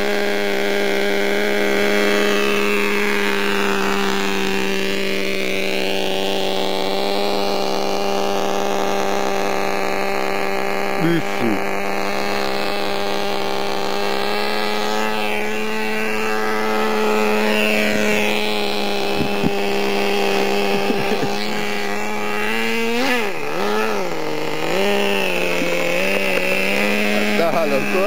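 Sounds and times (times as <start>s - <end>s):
small nitro engine running: 0.0s - 28.0s.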